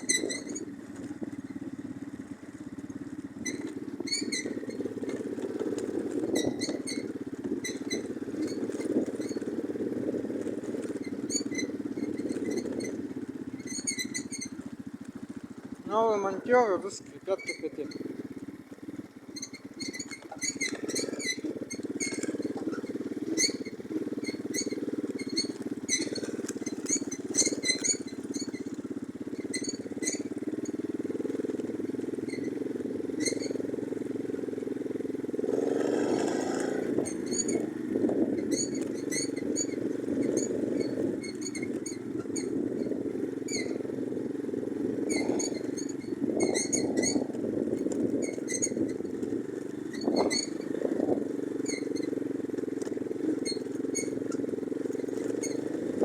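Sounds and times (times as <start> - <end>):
squeaks and clicks from bike: 0.0 - 2.2, 2.8 - 9.6, 10.4 - 18.4, 19.2 - 34.1, 34.8 - 56.0
moped engine running: 0.0 - 56.0.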